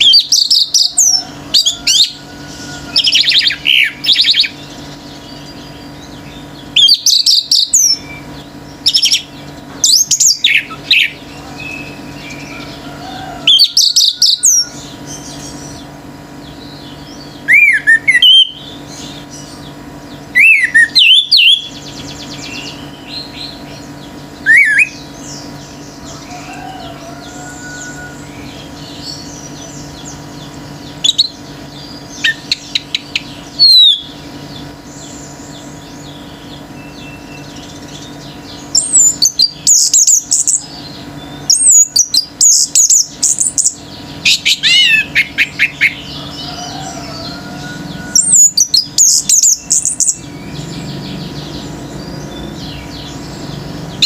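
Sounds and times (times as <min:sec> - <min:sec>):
other birds chirping: 0:00.0 - 0:54.0
steady low hum: 0:00.0 - 0:54.0.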